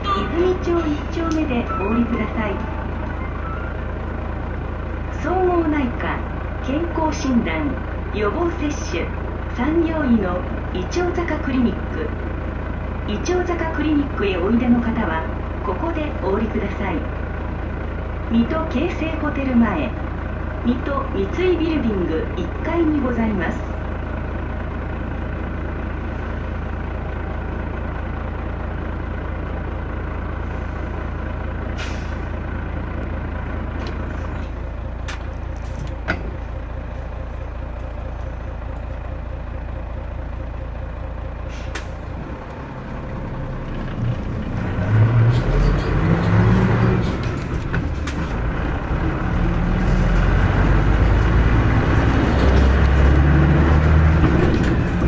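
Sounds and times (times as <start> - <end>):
bus engine idling and revving: 0.0 - 55.0.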